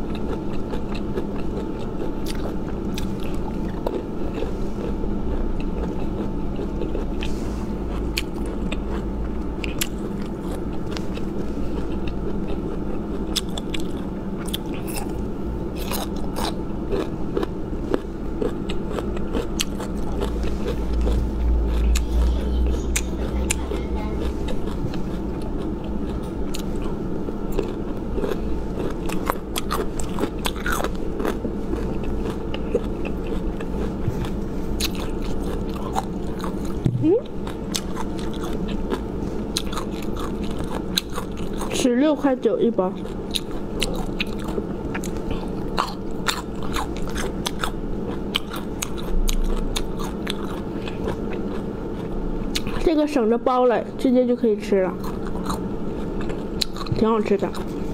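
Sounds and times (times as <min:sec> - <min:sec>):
crunching and chewing: 0:00.0 - 0:53.1, 0:54.8 - 0:57.9
steady low hum: 0:00.0 - 0:57.9.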